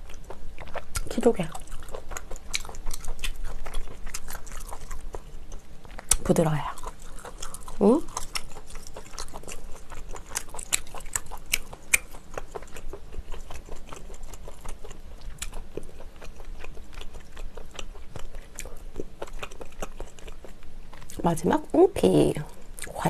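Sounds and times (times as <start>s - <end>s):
close wet chewing smacks: 0.0s - 21.2s.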